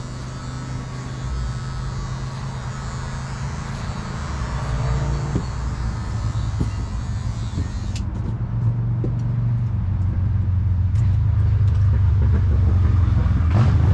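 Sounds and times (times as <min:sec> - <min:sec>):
low motor hum: 0:00.0 - 0:13.9.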